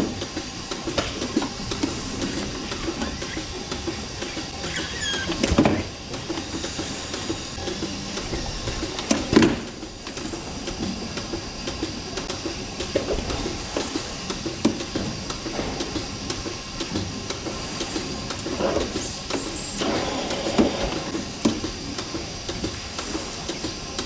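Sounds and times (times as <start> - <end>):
loud mechanical knocks: 0.0 - 24.0
milking robot running: 0.0 - 24.0.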